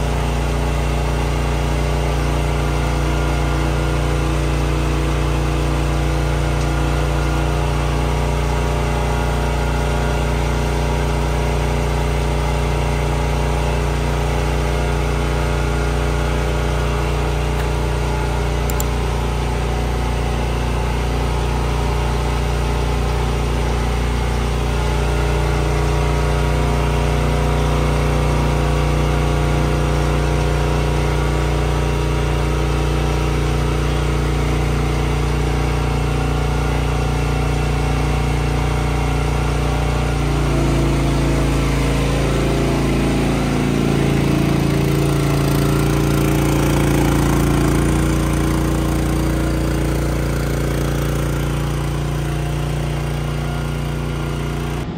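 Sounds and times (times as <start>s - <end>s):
small engine running: 0.0s - 54.9s.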